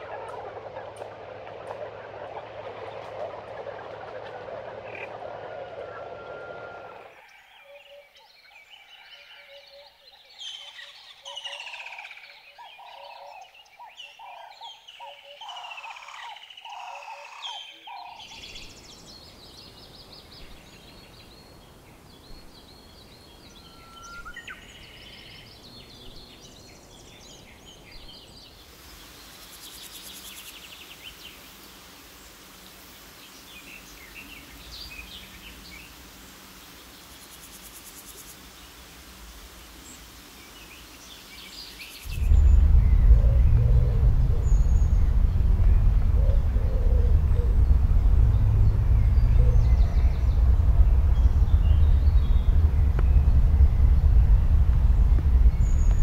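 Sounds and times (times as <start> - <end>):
forest ambience hiss: 0.0 - 56.0.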